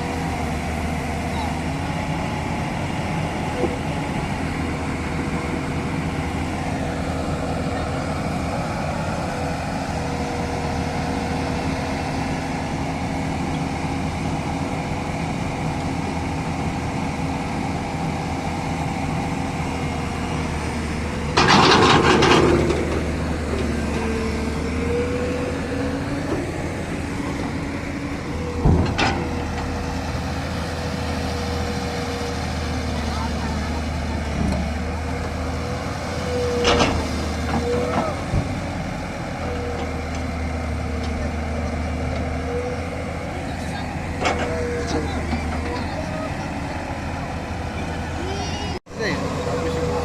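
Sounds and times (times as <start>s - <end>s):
diesel machinery engine whining: 0.0s - 50.0s.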